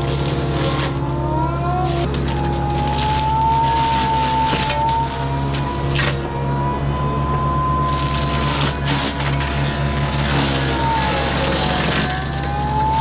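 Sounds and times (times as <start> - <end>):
mulching mower whine: 0.0 - 13.0
tractor engine running: 0.0 - 13.0.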